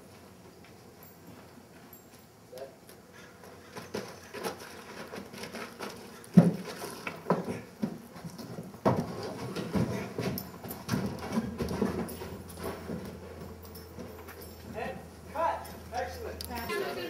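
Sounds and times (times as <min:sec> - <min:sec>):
horse hooves thumping on dirt: 0:00.0 - 0:16.8.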